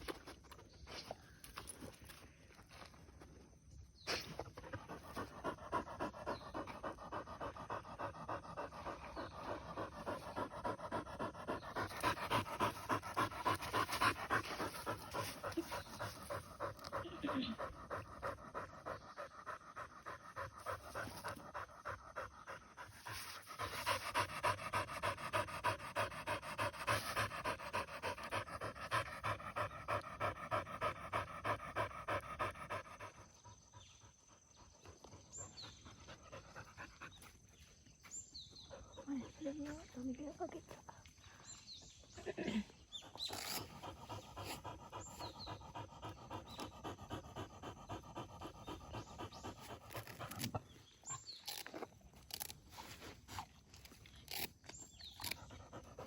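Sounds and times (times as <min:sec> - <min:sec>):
dog panting: 0:04.4 - 0:37.8, 0:38.4 - 0:51.6, 0:54.3 - 0:56.0.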